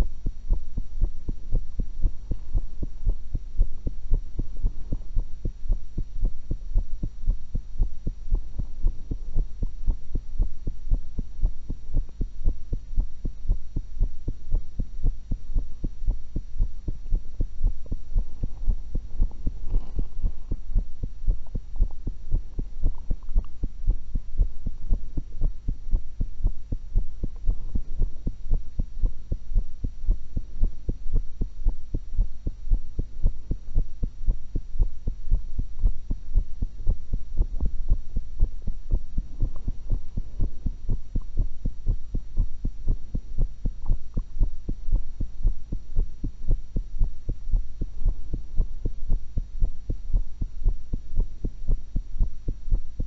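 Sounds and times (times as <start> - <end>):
constant low hum: 0.0 - 53.0
heartbeat thumps through stethoscope: 0.0 - 53.0.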